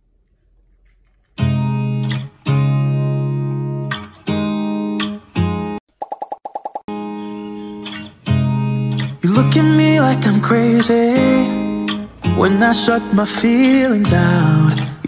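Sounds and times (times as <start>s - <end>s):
acoustic guitar strumming: 1.4s - 5.8s, 6.9s - 15.0s.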